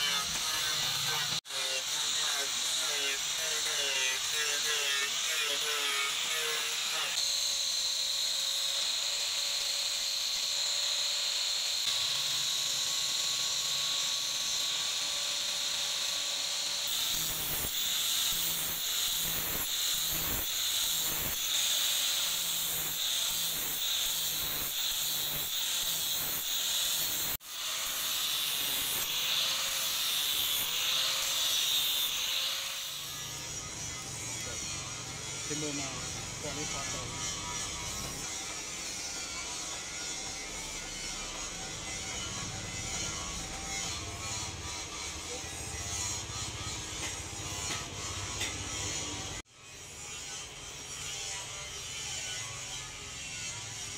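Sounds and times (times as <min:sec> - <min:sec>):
angle grinder grinding steel: 0:00.0 - 0:53.9.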